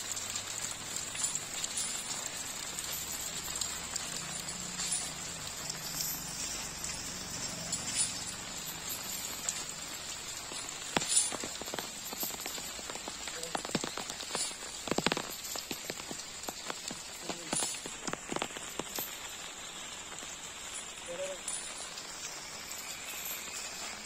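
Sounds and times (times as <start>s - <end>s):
rain falling on ground and leaves: 0.0s - 24.0s.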